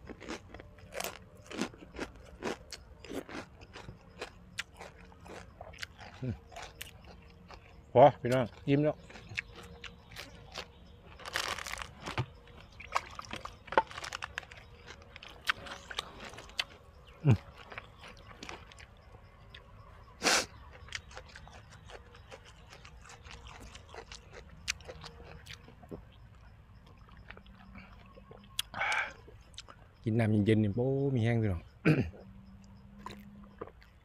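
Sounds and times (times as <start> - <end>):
crunchy bites: 0.0 - 26.2, 26.8 - 29.8, 31.9 - 34.0
wet chewing clicks: 0.0 - 30.1, 32.4 - 34.0.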